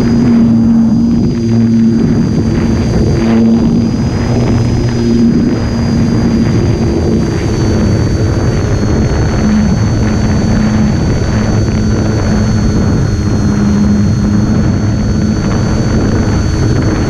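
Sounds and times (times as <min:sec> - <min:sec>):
electric motor high whine: 0:00.0 - 0:17.0
low buzz: 0:00.0 - 0:17.0
wind rushing over microphone: 0:00.0 - 0:17.0.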